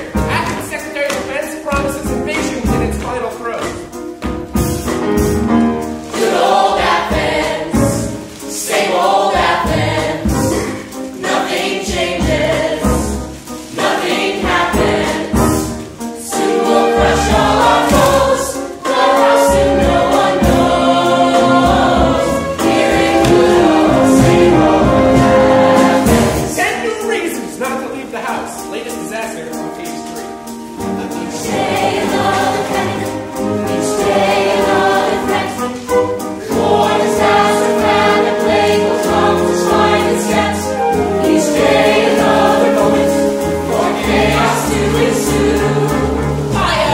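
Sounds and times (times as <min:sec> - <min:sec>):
pit band playing: 0:00.0 - 0:46.9
chorus singing: 0:05.7 - 0:27.5, 0:30.4 - 0:46.9.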